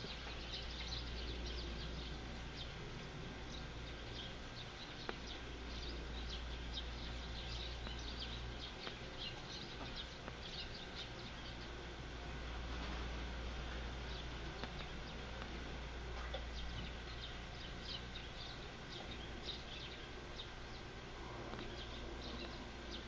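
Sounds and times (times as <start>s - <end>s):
low steady rumble: 0.0s - 23.0s
small birds chirping: 0.0s - 23.0s.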